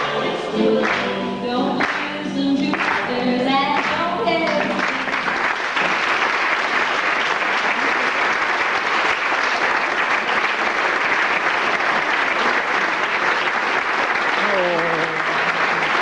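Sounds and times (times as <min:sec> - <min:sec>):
audience applauding: 0:00.0 - 0:01.2, 0:02.7 - 0:03.1, 0:03.7 - 0:16.0.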